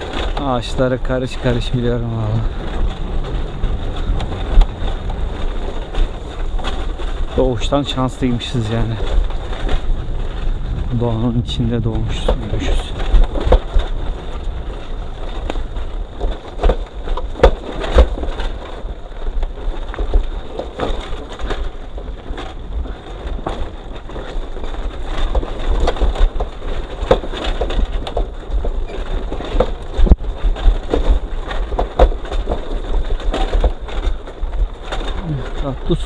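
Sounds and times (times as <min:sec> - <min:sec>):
tyres crunching over dirt track: 0:00.0 - 0:36.0
wind rumble on microphone: 0:00.0 - 0:36.0.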